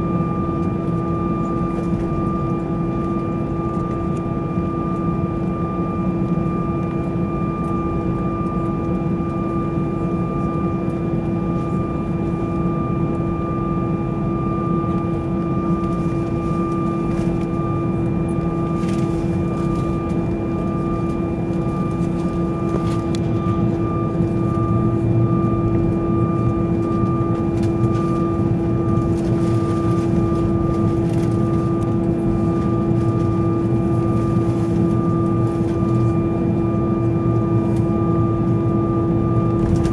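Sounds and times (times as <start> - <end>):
airplane cabin drone: 0.0 - 39.9
whine tones: 0.0 - 39.9.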